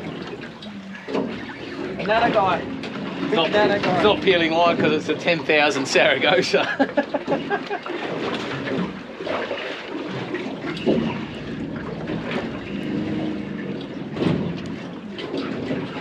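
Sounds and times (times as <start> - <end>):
boat on open water: 0.0 - 16.0
water: 0.0 - 16.0
wind: 0.0 - 16.0.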